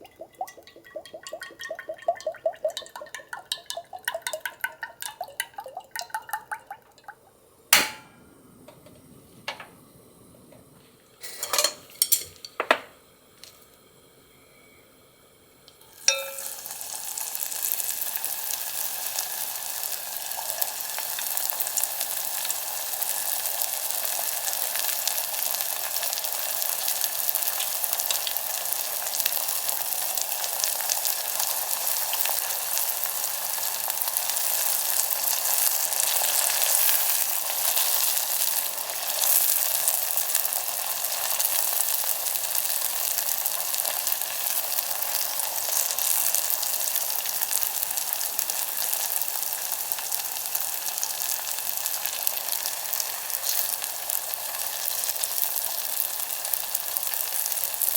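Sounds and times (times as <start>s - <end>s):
deep-frying sizzle: 0.0s - 57.9s.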